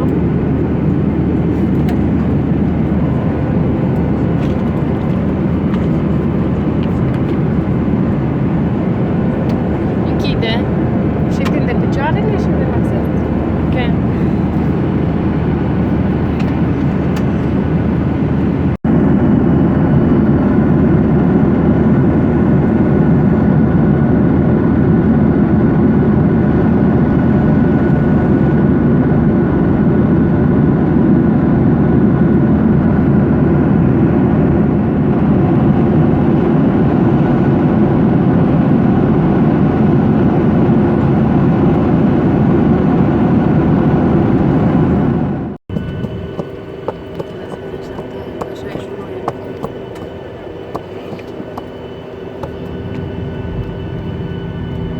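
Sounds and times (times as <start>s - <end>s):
jet engine cabin hum: 0.0s - 54.9s.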